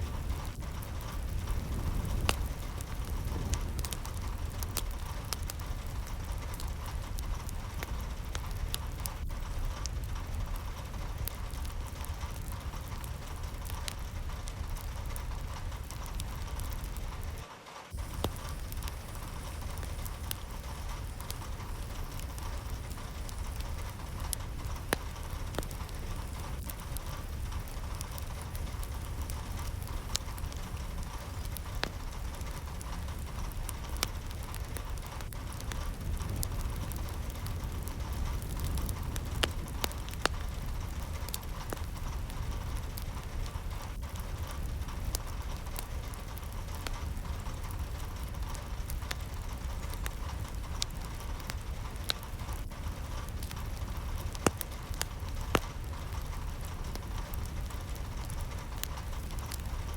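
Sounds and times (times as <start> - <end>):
low rumble: 0.0 - 17.4, 18.0 - 59.9
sharp raindrops ticking: 0.0 - 59.9
steady rain: 0.0 - 59.9.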